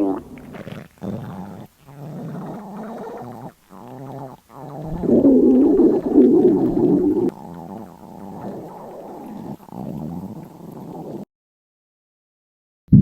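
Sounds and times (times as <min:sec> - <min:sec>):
stomach growling: 0:00.0 - 0:11.2.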